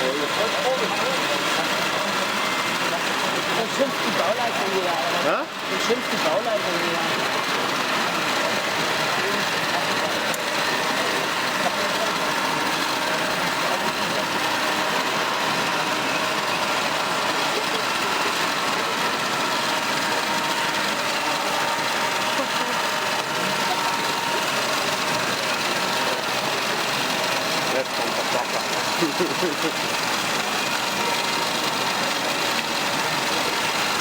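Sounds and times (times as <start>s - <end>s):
model machines mechanical whine: 0.0s - 34.0s
voices talking: 0.0s - 34.0s.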